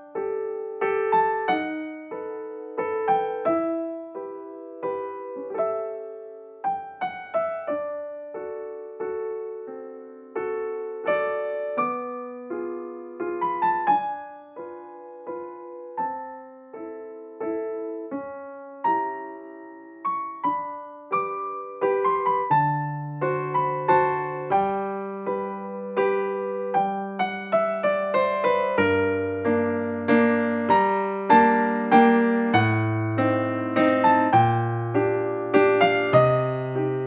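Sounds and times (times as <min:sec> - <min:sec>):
electric piano melody: 0:00.0 - 0:37.0.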